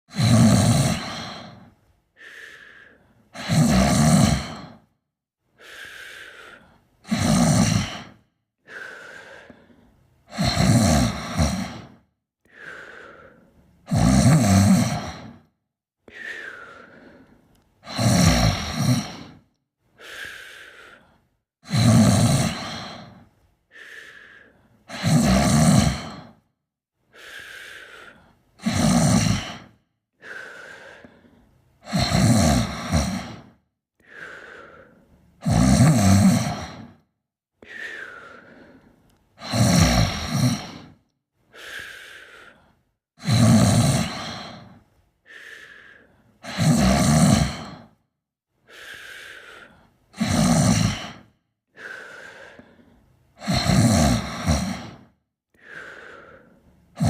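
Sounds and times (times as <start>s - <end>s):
person snoring: 0.1s - 5.0s, 5.6s - 26.5s, 27.1s - 48.0s, 48.6s - 57.0s.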